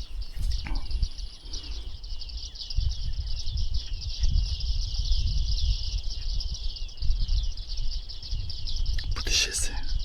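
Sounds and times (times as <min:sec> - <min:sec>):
birds chirping quickly: 0:00.0 - 0:10.0.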